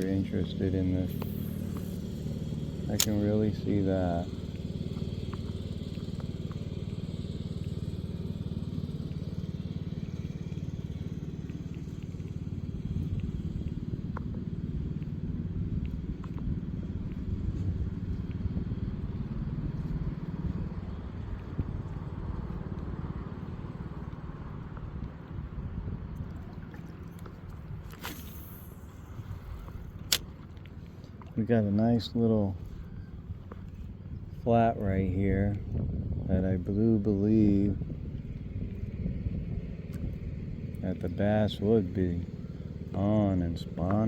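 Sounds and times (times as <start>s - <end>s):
low motor-like rumble: 0.0s - 44.0s.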